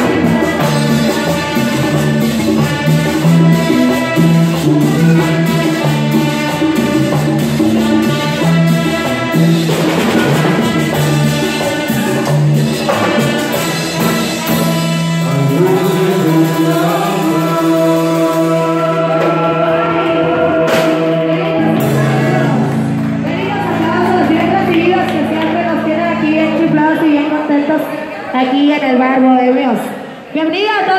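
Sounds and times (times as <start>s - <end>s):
person singing: 0.0s - 27.5s
live salsa band playing: 0.0s - 30.9s.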